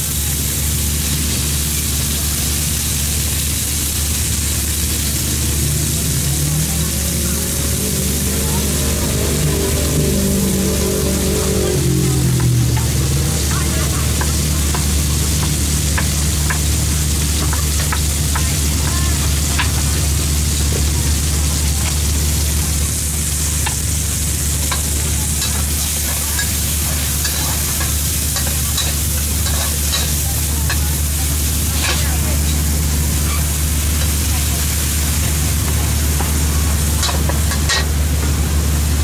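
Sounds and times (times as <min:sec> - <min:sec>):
food sizzling in hot oil: 0:00.0 - 0:39.0
spatula scraping wok: 0:03.6 - 0:38.6.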